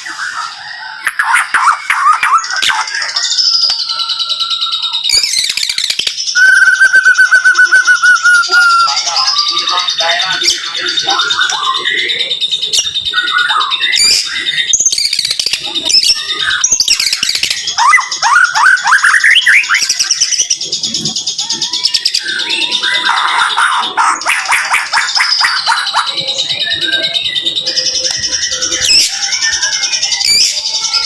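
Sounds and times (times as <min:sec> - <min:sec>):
songbird singing trills and whistles: 0:00.0 - 0:31.0.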